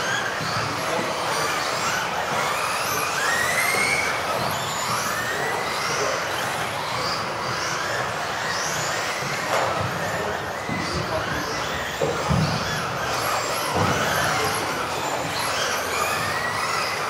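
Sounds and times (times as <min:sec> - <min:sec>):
electric rc car motors whining: 0:00.0 - 0:17.0.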